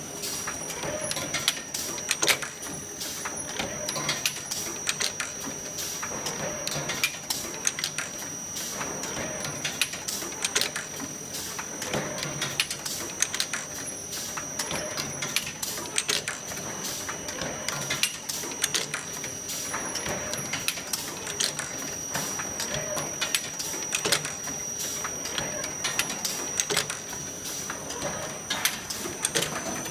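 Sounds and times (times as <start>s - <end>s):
high-pitched machine whine: 0.0s - 29.9s
machine clattering clicks: 0.4s - 8.2s, 9.1s - 29.9s.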